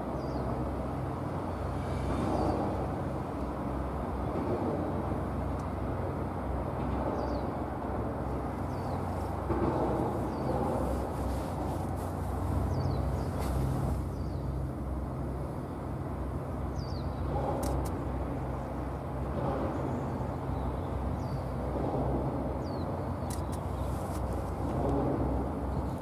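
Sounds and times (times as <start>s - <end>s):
boat engines rumbling: 0.0s - 26.0s.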